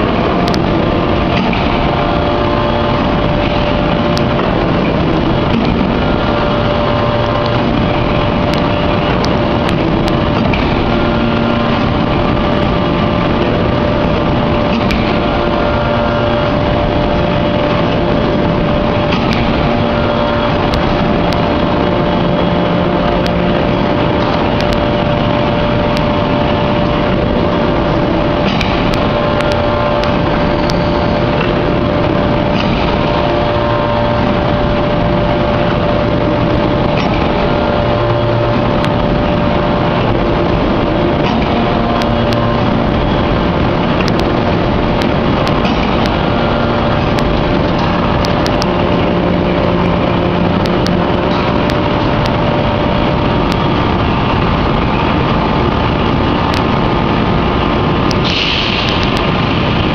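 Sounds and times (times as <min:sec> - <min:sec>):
hydraulic forging press running: 0:00.0 - 0:59.9
steady hum: 0:00.0 - 0:59.9.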